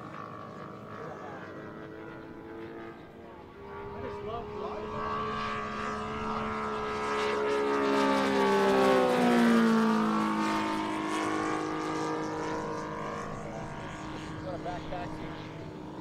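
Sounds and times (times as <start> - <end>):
model plane engine flying past: 0.0 - 16.0.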